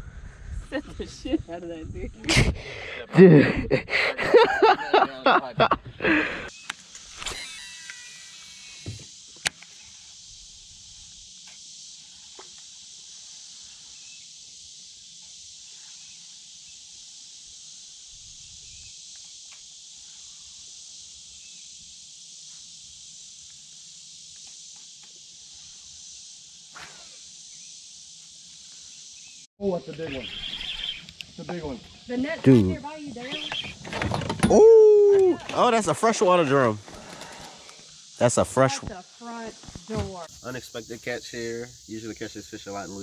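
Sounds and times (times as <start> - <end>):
insect chorus: 0.0 - 43.0.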